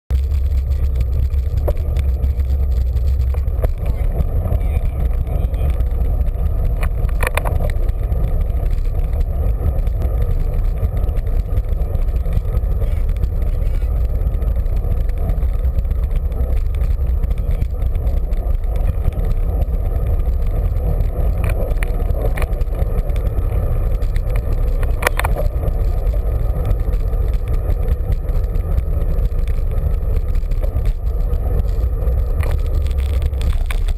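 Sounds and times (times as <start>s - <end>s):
wind and road noise rumble: 0.1s - 33.9s.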